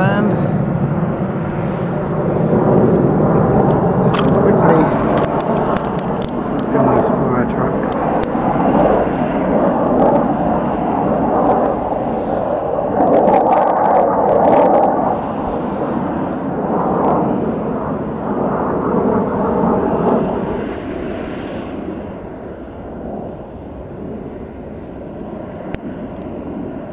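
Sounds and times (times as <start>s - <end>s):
jet engine drone: 0.0s - 26.9s.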